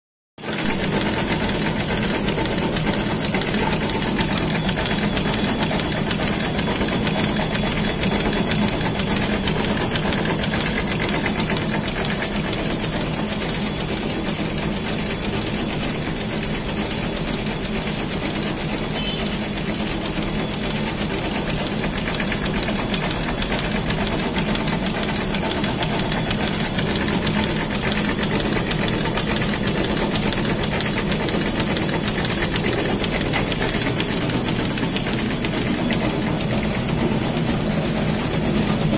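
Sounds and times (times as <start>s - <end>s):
knitting machine clattering: 0.5s - 38.9s.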